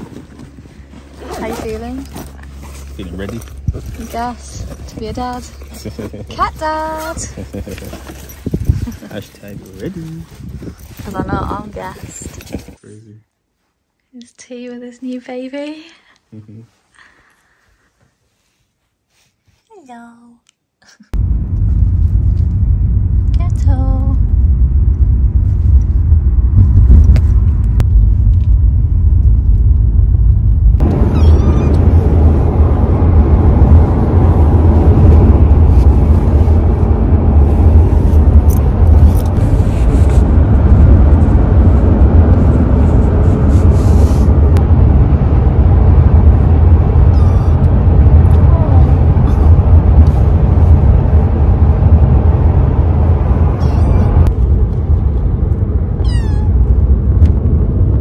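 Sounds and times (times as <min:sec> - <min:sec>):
car cabin road rumble: 0:00.0 - 0:12.8, 0:21.1 - 0:58.0.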